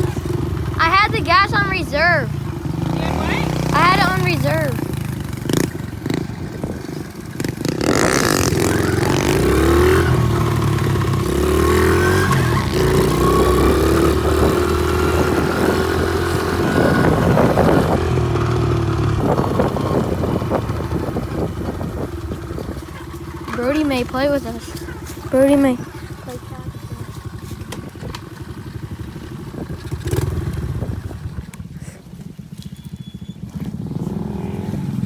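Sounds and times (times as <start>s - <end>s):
pit bike engine revving: 0.0s - 35.0s.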